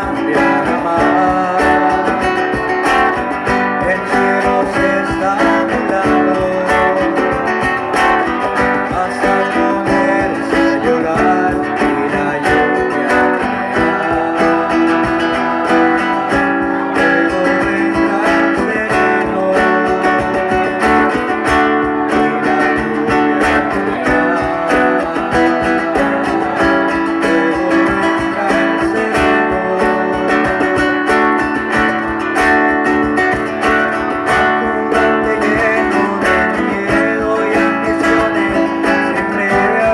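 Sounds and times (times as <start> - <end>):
guitar picked and strummed: 0.0 - 39.9.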